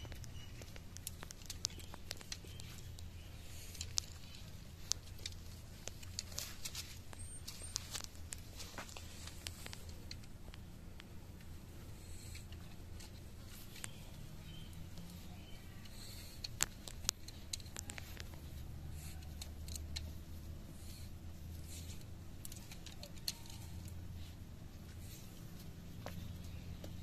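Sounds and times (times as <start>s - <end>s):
clicks and rustles in grass: 0.0s - 27.0s.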